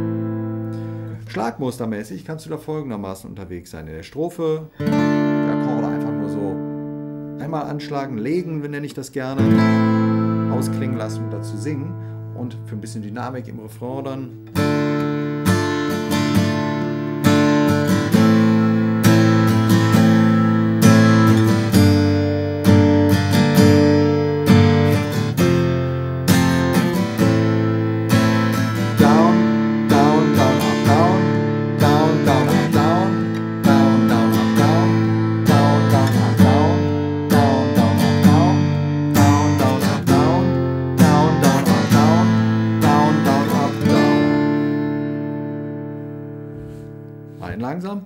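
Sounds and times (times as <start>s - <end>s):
acoustic guitar strumming chords: 0.0s - 2.0s, 4.6s - 47.6s.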